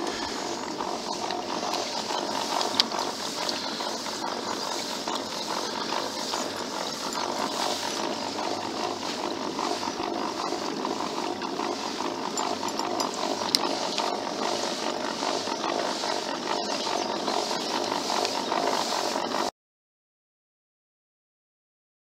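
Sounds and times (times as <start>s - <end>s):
dog panting heavily: 0.0s - 19.2s.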